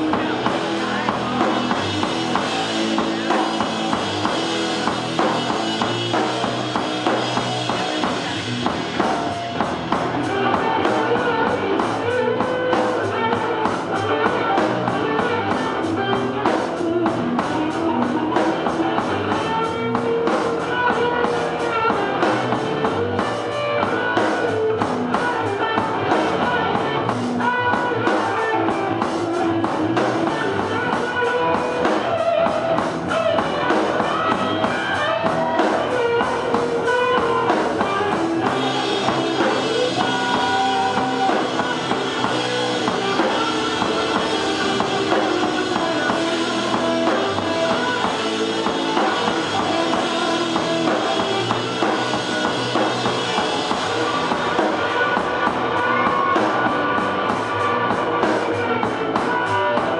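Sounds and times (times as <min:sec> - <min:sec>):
amplified electric guitar: 0:00.0 - 0:59.9
drum kit: 0:00.0 - 0:59.9.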